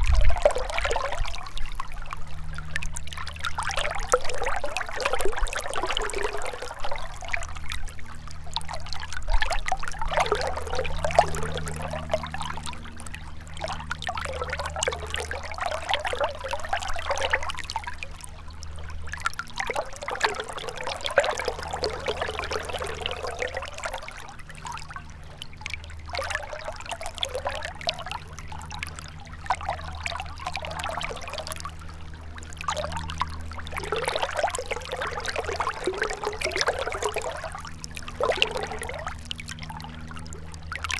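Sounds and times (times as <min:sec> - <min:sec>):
river water trickling: 0:00.0 - 0:40.9.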